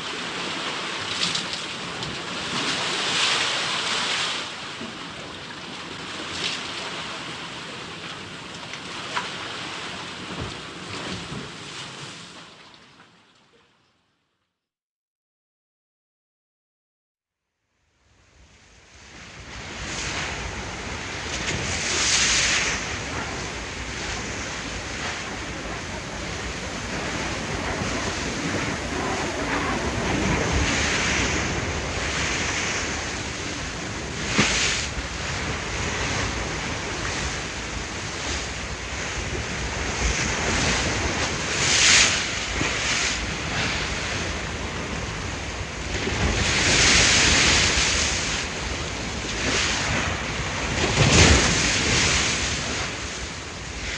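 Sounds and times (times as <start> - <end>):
ocean waves washing in: 0.0 - 13.2, 18.0 - 53.9
water splashes: 0.0 - 13.5, 19.8 - 53.9.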